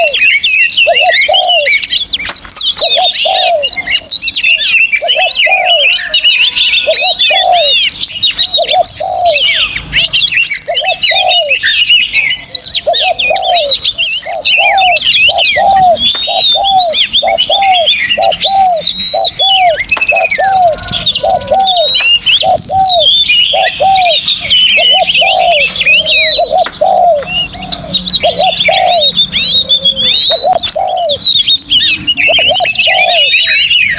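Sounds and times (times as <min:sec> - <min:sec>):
songbirds chirping and trilling: 0:00.0 - 0:33.9.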